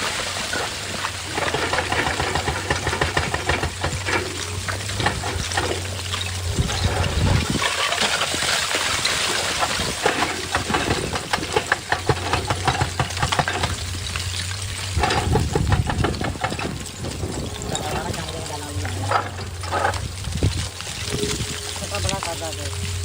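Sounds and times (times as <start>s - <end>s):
excavator diesel engine running: 0.0s - 23.0s
rapid crackling and clicking: 0.0s - 23.0s.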